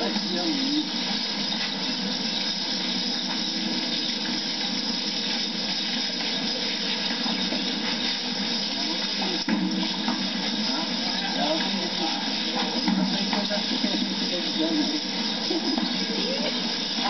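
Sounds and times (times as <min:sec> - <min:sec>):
videotape hiss: 0:00.0 - 0:17.0.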